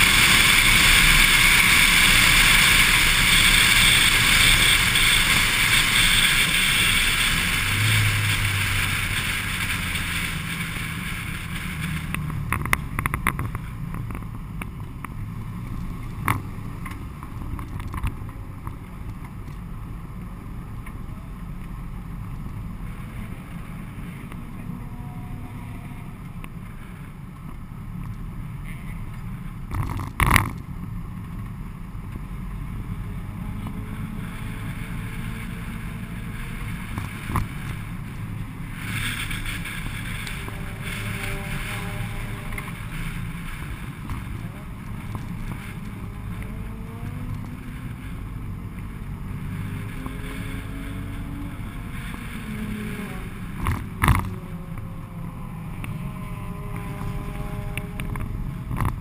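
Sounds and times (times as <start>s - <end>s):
car engine running: 0.0s - 24.3s, 26.2s - 59.0s
wind and road noise: 0.0s - 59.0s.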